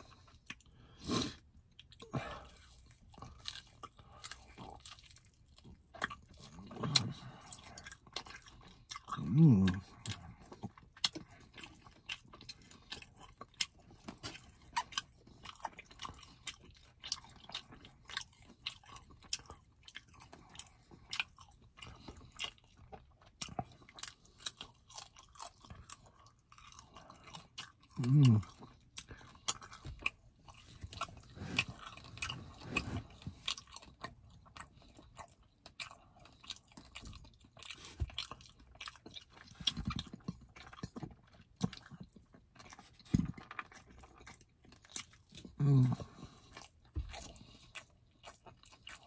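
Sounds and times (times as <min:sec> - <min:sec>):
person chewing and lip smacking: 0:00.0 - 0:49.0.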